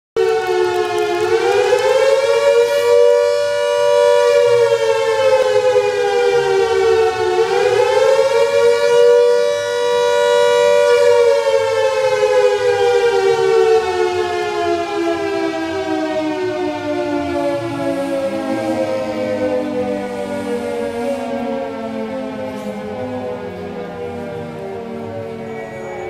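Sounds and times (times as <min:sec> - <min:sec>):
air raid siren wailing: 0:00.2 - 0:26.0.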